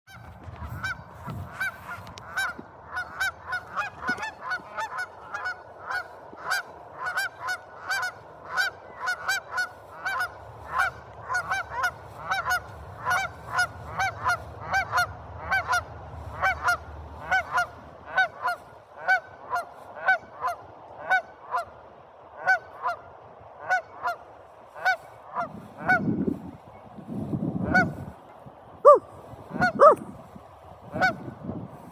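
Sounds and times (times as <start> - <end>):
geese honking: 0.1 - 21.8, 22.4 - 26.1, 27.6 - 28.1, 28.9 - 30.0, 30.9 - 31.3.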